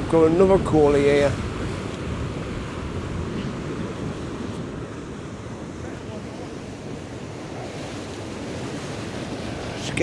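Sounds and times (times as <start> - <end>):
waves washing on rocky shore: 0.0 - 10.0
wind buffeting microphone: 0.0 - 10.0.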